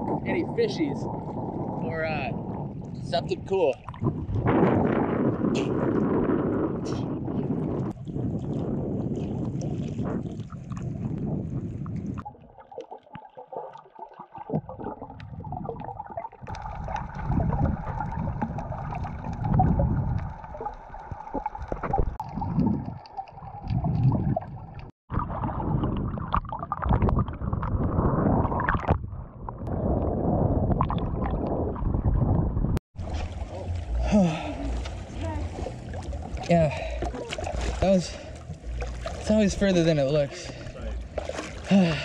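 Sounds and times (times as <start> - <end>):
water sloshing and splashing: 0.0 - 32.4, 33.0 - 42.0.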